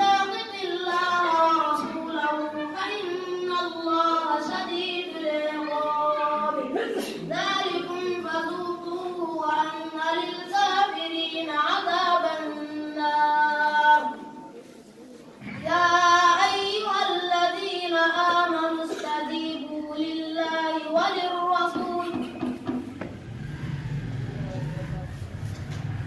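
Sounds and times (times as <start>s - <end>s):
child singing unaccompanied: 0.0s - 14.7s, 15.4s - 22.8s.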